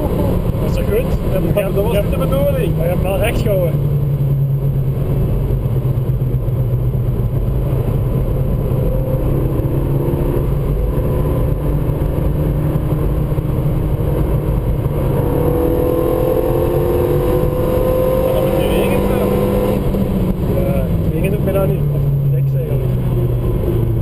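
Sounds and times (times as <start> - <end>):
car engine accelerating: 0.0 - 24.0
road and wind rumble: 0.0 - 24.0.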